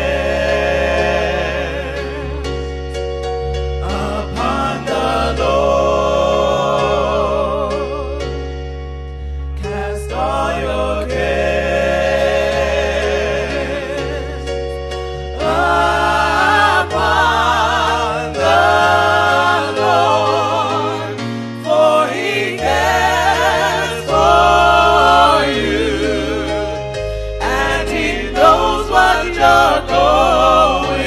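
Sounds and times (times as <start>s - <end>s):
gospel singing with vibrato: 0.0s - 31.0s.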